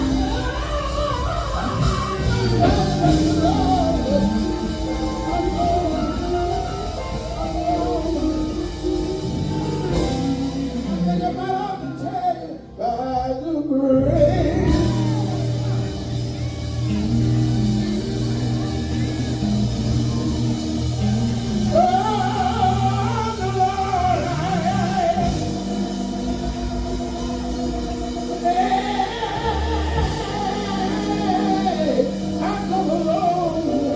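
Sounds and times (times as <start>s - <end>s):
band with steady bass line: 0.0s - 33.9s
gospel singers: 0.0s - 33.9s.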